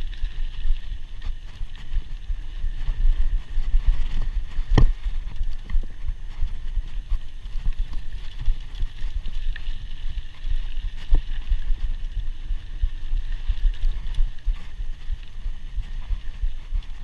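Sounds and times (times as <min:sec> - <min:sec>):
mountain bike rolling over dirt: 0:00.0 - 0:17.0.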